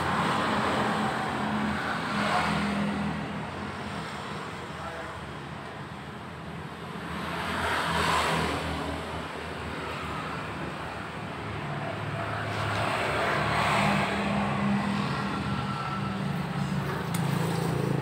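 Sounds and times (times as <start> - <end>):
passing vehicle engines: 0.0 - 5.1, 6.9 - 18.0.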